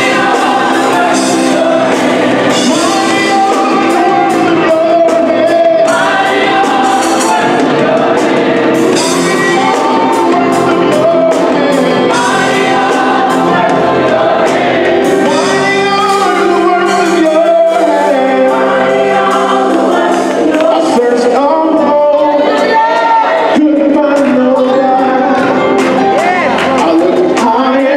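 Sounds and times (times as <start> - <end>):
drum kit: 0.0 - 27.9
gospel choir singing: 0.0 - 27.9
organ: 0.0 - 27.9.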